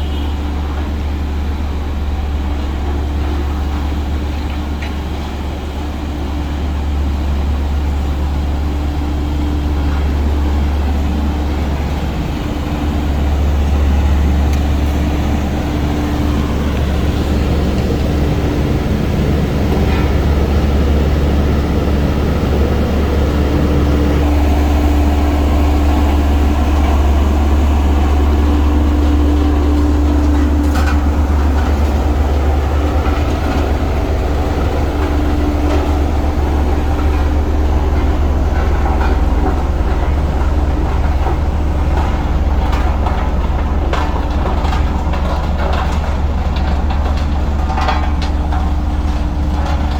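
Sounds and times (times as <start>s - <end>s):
diesel construction machine rumbling: 0.0s - 49.9s.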